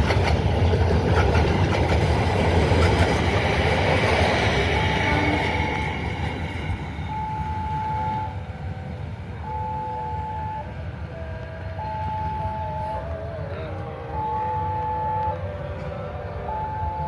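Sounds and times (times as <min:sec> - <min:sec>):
passing train rumble: 0:00.0 - 0:17.0
high steady whining tones: 0:01.8 - 0:17.0.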